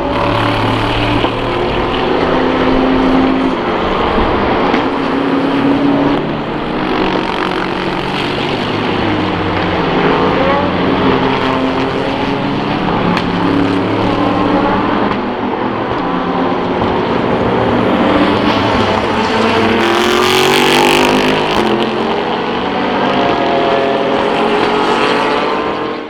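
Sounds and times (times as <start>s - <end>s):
race car engines accelerating: 0.0s - 26.0s.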